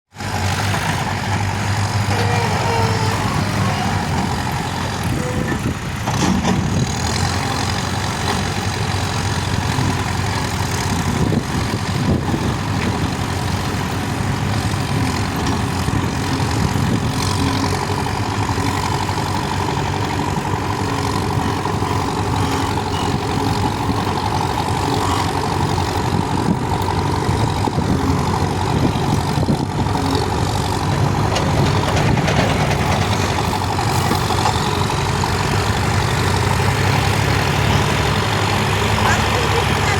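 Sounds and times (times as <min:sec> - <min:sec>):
diesel engine running: 0:00.1 - 0:39.9.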